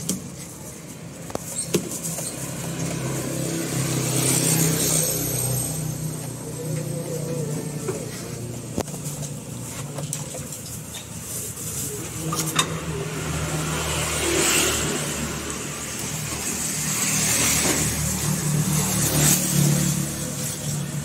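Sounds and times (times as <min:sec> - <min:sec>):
vehicles passing close by: 0:00.0 - 0:21.0.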